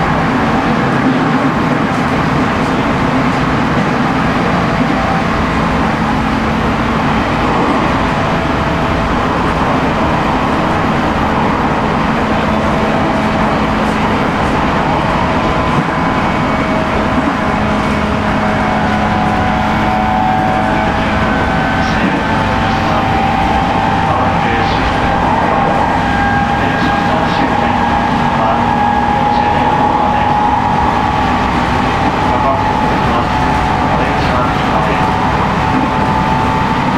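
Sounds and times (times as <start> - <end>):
train wheels roaring on rail: 0.0 - 36.9.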